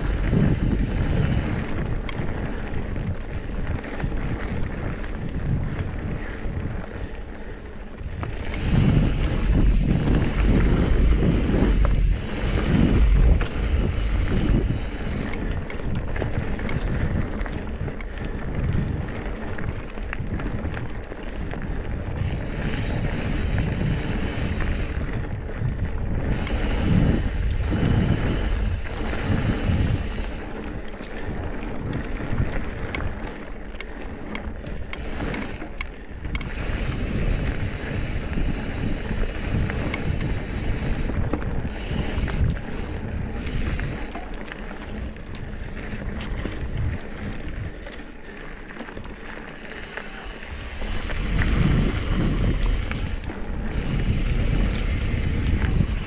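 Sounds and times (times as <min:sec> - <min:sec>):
bike clicking and rattling: 0:00.0 - 0:56.0
bike tyres rolling on dirt: 0:00.0 - 0:56.0
wind on microphone: 0:00.0 - 0:56.0.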